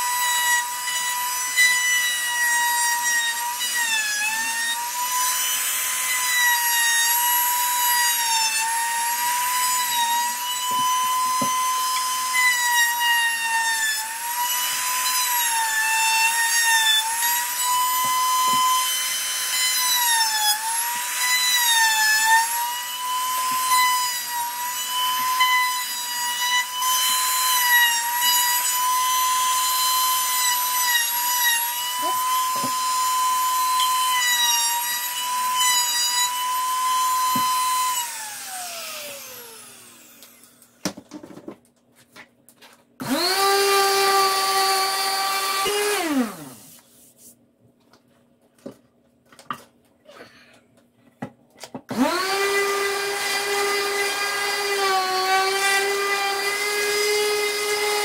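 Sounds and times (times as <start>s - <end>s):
router motor whine cutting wood: 0.0s - 40.8s, 43.0s - 46.8s, 51.9s - 58.0s.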